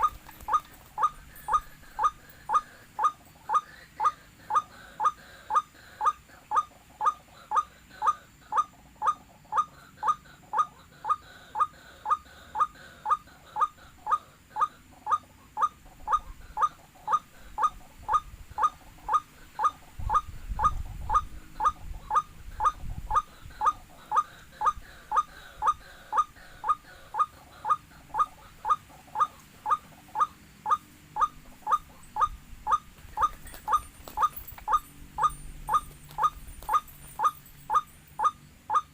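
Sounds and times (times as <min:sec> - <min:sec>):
bird call repeated: 0:00.0 - 0:38.9.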